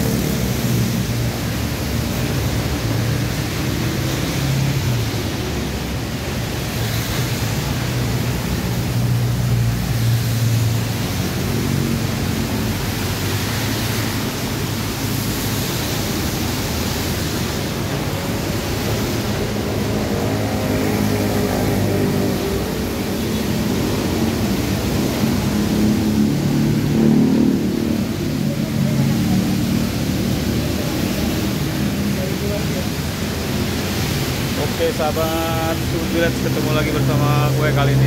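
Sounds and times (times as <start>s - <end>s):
rain hissing: 0.0s - 38.0s
road traffic passing: 0.0s - 38.0s.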